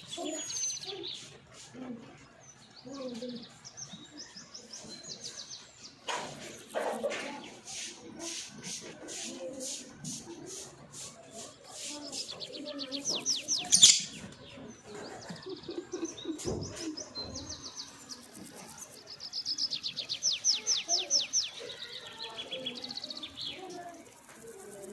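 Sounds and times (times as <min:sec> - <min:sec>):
lovebirds chirping: 0:00.0 - 0:24.9.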